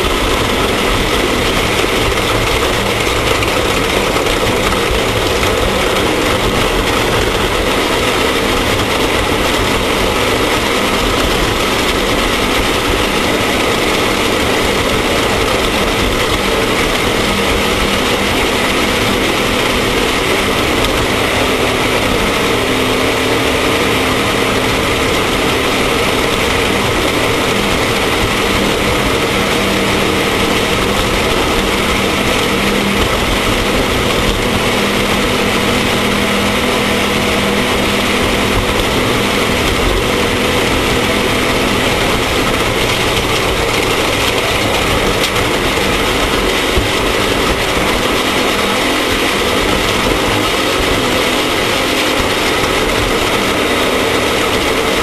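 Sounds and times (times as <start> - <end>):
engine running loudly: 0.0 - 55.0.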